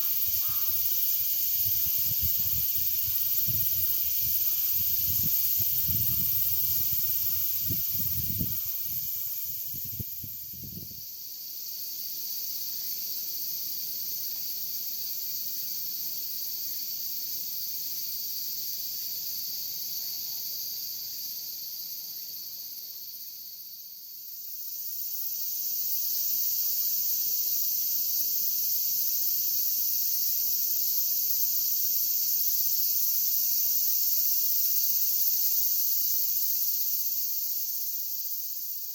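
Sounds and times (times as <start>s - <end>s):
insect chorus drone: 0.0s - 38.9s.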